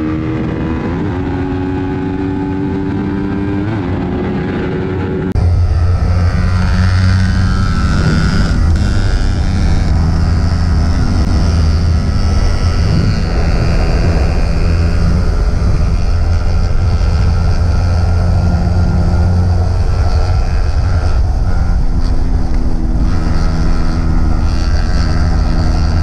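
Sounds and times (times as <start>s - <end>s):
motorcycle engine running: 0.0s - 26.0s
road noise: 0.0s - 26.0s
rushing air: 4.1s - 26.0s.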